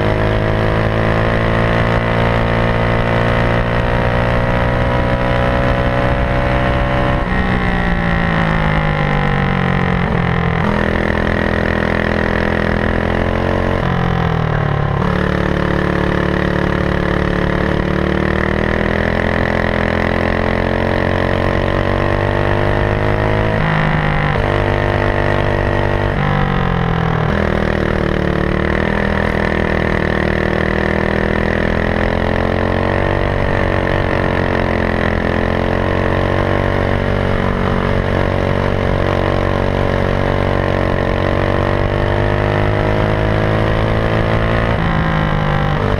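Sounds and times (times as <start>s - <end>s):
racing kart engine revving: 0.0s - 45.9s.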